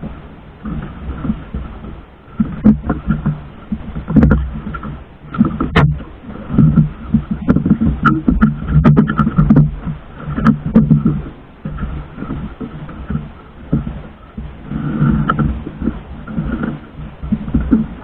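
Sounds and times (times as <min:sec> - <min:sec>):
water sloshing against boat hull: 0:00.0 - 0:18.0
wood knocking against boat: 0:00.0 - 0:18.0.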